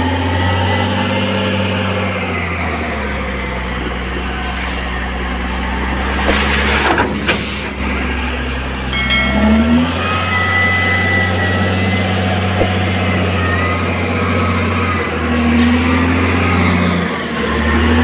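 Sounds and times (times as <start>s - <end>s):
wheel loader diesel engine running: 0.0s - 18.0s.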